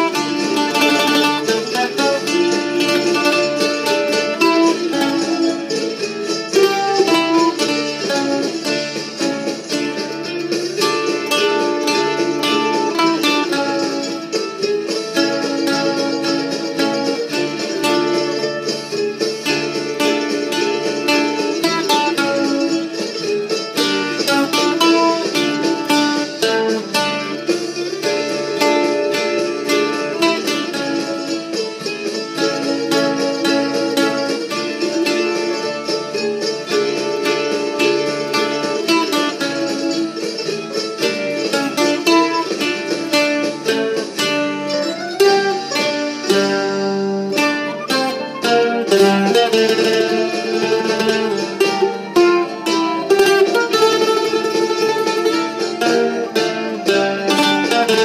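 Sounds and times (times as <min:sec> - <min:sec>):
mandolin ensemble playing a march: 0:00.0 - 0:58.0.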